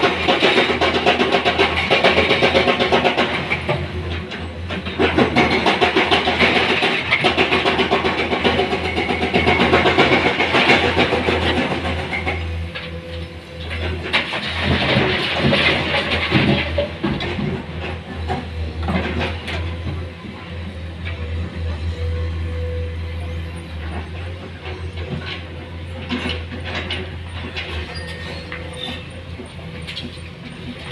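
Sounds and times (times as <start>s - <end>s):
excavator diesel engine: 0.0s - 30.9s.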